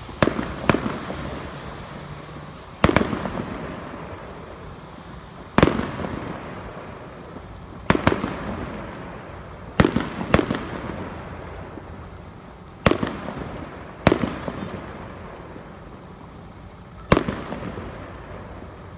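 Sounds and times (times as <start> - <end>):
fireworks bangs: 0.0 - 16.4, 17.0 - 18.9
rolling echo: 0.0 - 18.9.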